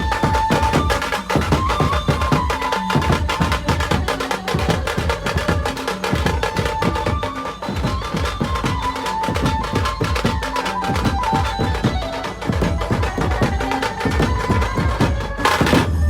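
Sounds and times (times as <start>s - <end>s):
fast drum beat: 0.0s - 16.0s.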